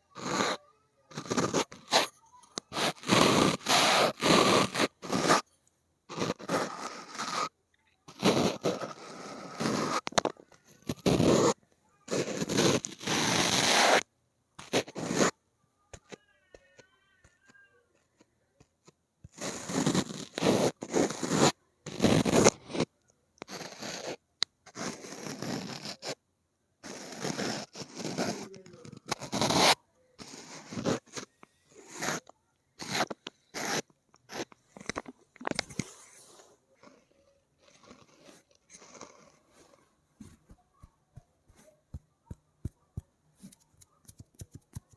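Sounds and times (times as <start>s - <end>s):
fingernails scratching an object: 0.2s - 5.5s, 6.1s - 14.0s, 14.6s - 15.3s, 19.3s - 26.2s, 26.8s - 44.9s.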